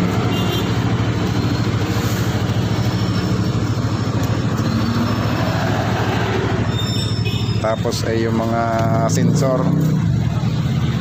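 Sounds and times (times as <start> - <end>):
engine idling: 0.0 - 8.9.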